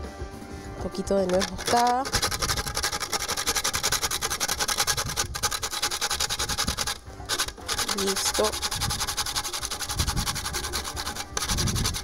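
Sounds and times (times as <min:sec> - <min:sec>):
nutmeg scraping on a metal grater: 0:01.0 - 0:12.0.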